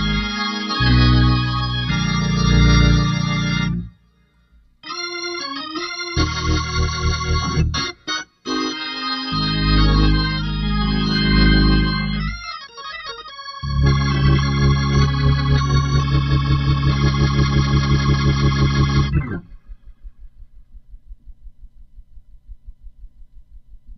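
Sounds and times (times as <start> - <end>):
drawbar organ chords: 0.0 - 20.0.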